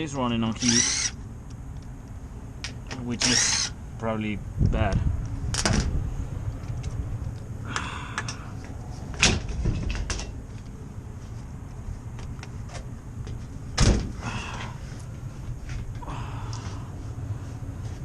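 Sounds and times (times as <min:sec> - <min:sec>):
low hum of running unit: 0:00.0 - 0:18.0.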